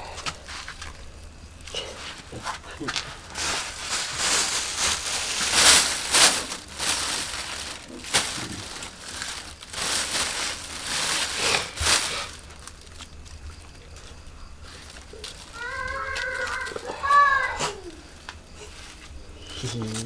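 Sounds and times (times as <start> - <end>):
plastic bag rustling: 0.4 - 20.0.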